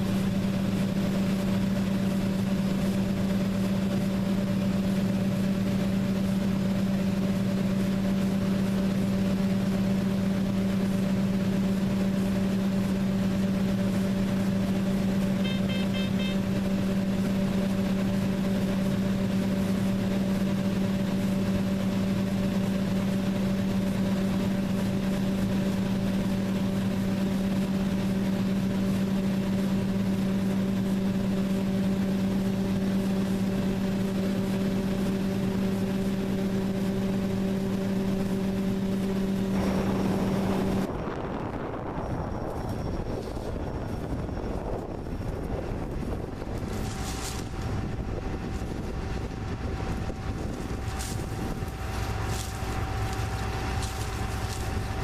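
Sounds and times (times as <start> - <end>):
combine harvester hum: 0.0 - 55.0.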